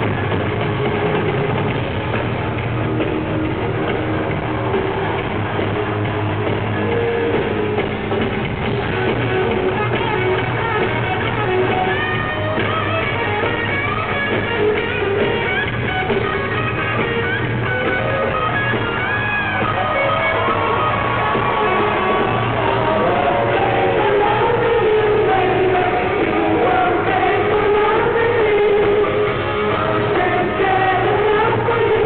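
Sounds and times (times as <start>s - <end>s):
live rock band playing: 0.0s - 32.0s
sliding melodic guitar lines: 0.0s - 32.0s.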